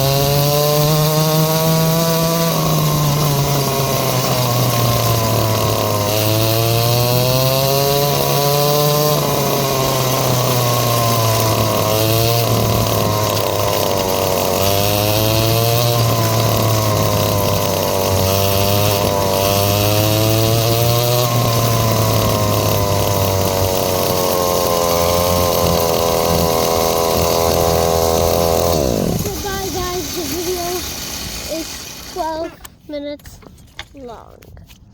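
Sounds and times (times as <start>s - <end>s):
dirt bike engine revving: 0.0s - 32.5s.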